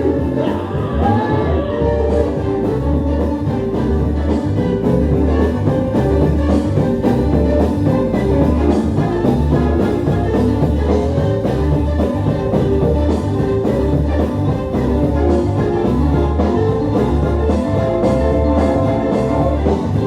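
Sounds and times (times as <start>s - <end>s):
gospel band playing steady beat: 0.0s - 20.0s.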